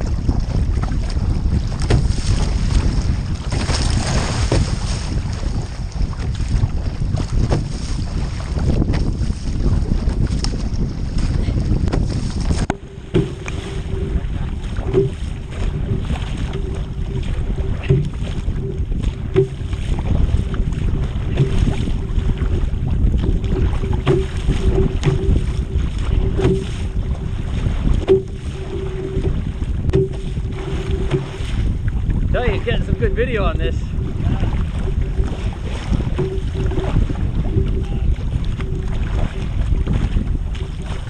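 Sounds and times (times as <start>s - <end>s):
paddle strokes: 0.0s - 41.0s
water washing along kayak: 0.0s - 41.0s
wind buffeting microphone: 0.0s - 41.0s.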